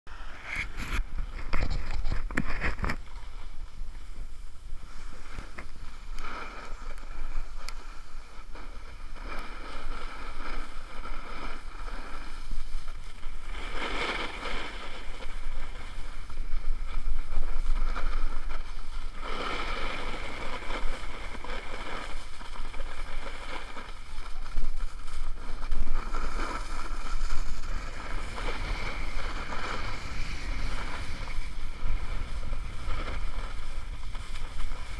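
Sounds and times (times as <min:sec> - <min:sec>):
snowboard scraping over snow: 0:00.1 - 0:34.9
wind buffeting microphone: 0:00.1 - 0:34.9.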